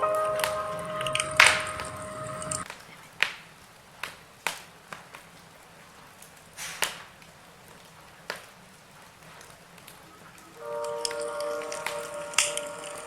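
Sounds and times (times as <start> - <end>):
logs crackling in a fireplace: 0.2 - 13.0.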